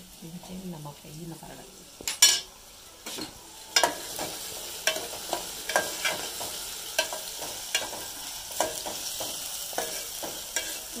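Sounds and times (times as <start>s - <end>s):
onions sizzling in hot oil: 0.0s - 11.0s
ladle clinking and scraping pot: 2.1s - 10.9s.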